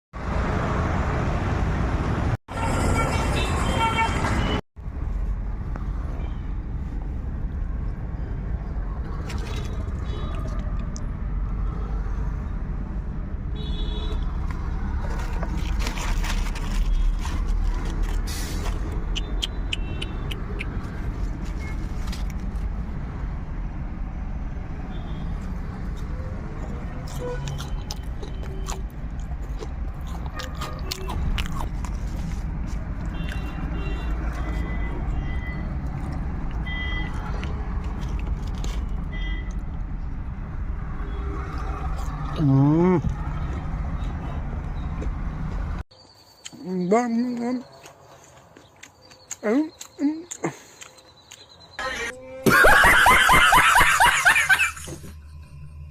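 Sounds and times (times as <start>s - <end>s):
rumble of passing vehicles: 0.2s - 55.9s.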